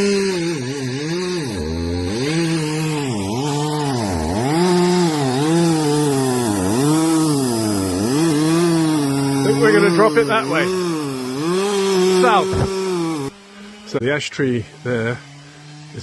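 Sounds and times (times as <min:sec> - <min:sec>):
chainsaw cutting into tree: 0:00.0 - 0:16.0.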